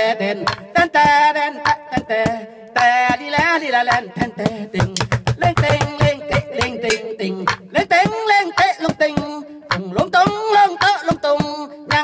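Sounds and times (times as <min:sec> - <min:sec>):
man singing into microphone: 0:00.0 - 0:12.0
music with drum beat: 0:00.0 - 0:12.0.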